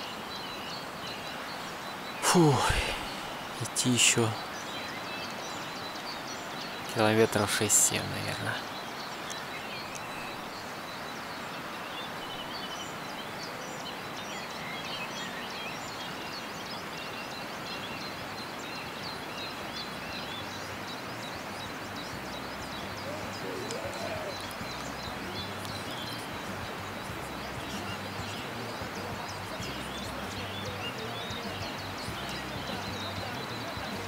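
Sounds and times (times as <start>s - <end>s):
background hiss: 0.0s - 34.0s
birds chirping and singing: 0.0s - 34.0s.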